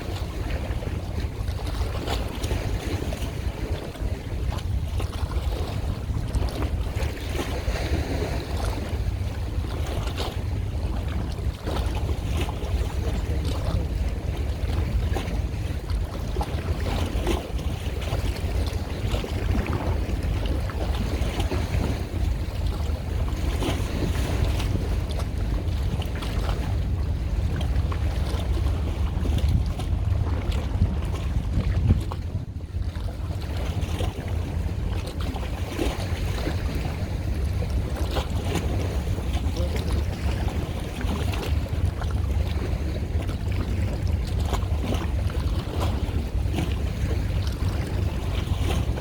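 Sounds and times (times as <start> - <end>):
water and boat noise: 0.0 - 49.0
wind rumbling on microphone: 0.0 - 49.0.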